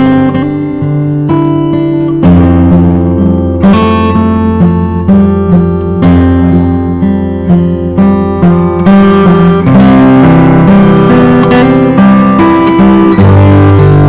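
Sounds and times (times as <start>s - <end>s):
acoustic guitar melody: 0.0s - 14.0s.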